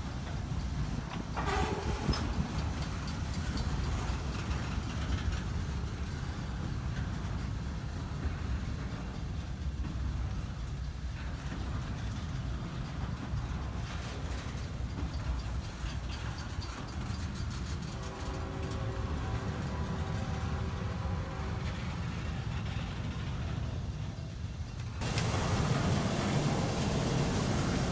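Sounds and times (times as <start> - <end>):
train wheels clicking: 0.0 - 27.2
diesel locomotive rumble: 0.0 - 27.9.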